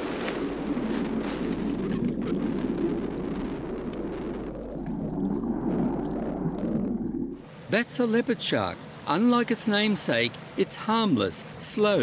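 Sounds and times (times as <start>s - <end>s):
muffled water rushing: 0.0s - 10.6s.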